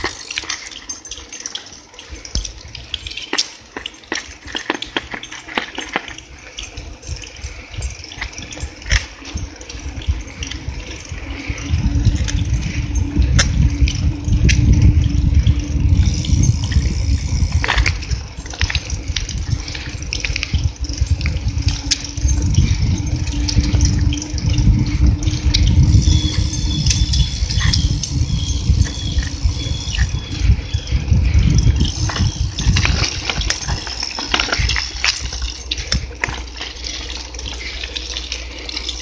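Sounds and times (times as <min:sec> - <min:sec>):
bicycle clicks and rattles: 0:00.0 - 0:39.0
wind buffeting microphone: 0:02.1 - 0:03.3, 0:06.1 - 0:38.9.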